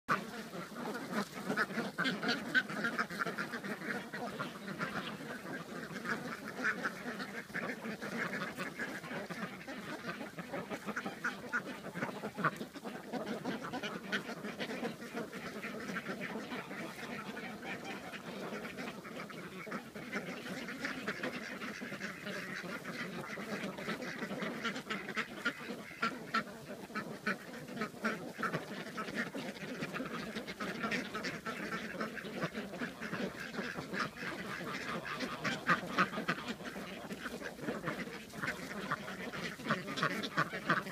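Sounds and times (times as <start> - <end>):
ducks quacking: 0.1 - 40.9.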